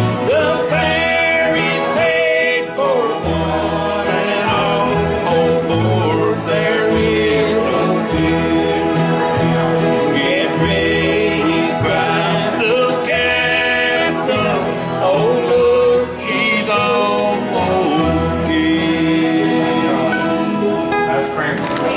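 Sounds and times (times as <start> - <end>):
men singing gospel song: 0.0 - 20.7
strummed acoustic guitar: 0.0 - 21.9.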